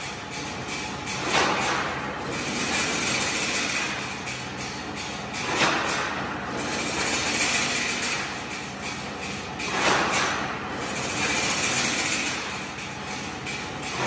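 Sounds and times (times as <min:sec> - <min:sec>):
fence weaving machine clatter: 0:00.0 - 0:14.0.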